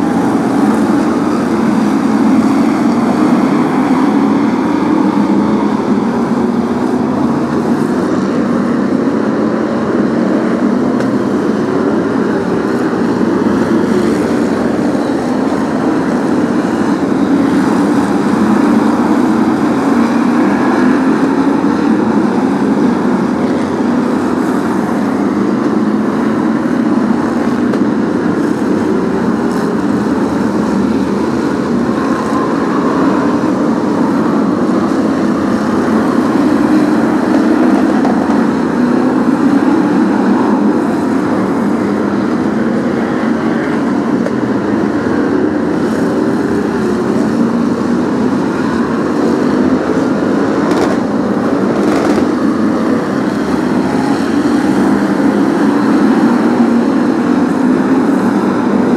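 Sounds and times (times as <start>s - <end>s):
racing car engines droning: 0.0s - 58.9s.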